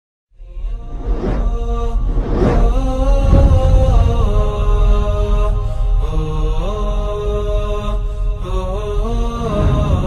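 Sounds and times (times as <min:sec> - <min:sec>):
chanted vocal notes: 0:00.4 - 0:10.0
deep low rumble: 0:00.5 - 0:10.0.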